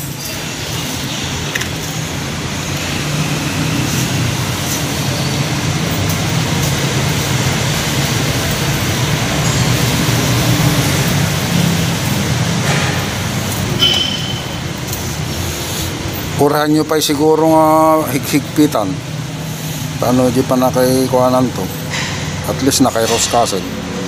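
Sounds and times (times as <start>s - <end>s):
machinery droning: 0.0s - 24.0s.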